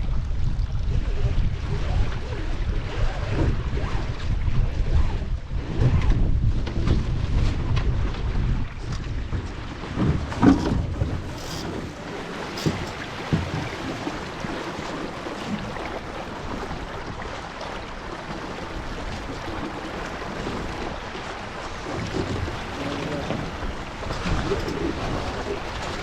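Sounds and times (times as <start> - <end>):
water rushing along boat hull: 0.0 - 26.0
wind buffeting microphone: 0.0 - 26.0.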